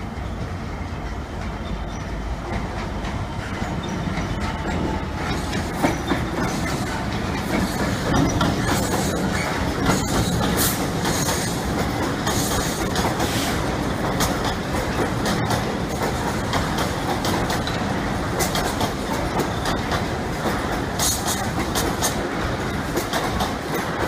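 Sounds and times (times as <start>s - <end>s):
train wheels clicking over rail joints: 0.1s - 24.0s.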